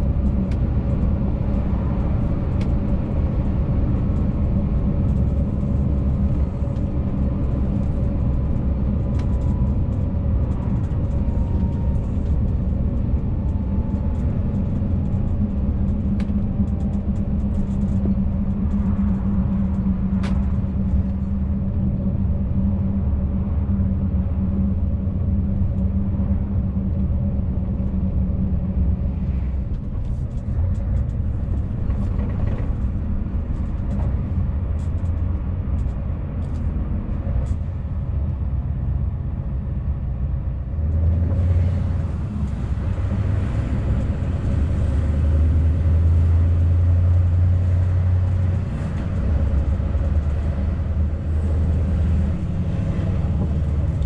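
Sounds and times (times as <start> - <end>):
diesel truck engine droning: 0.0 - 54.0
road noise: 0.0 - 54.0.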